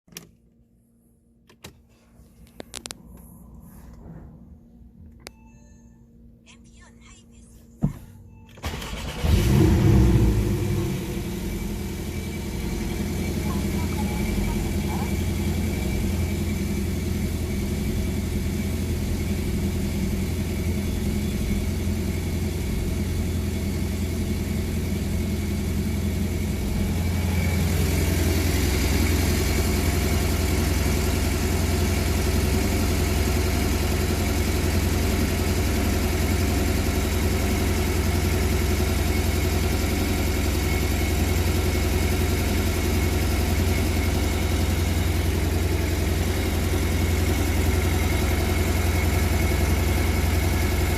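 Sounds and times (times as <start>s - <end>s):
car engine idling: 7.8s - 50.9s.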